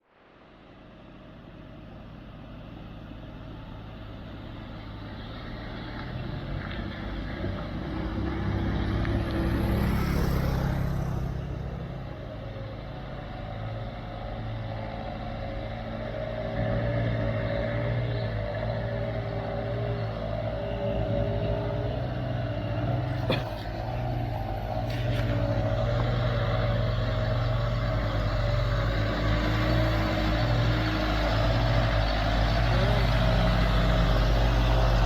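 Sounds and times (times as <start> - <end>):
truck engine working hard: 6.4 - 35.0.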